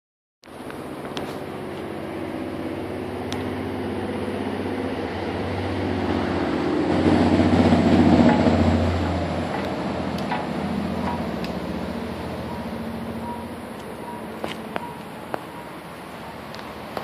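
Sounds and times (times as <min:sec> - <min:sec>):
engine idling: 0:00.5 - 0:17.0.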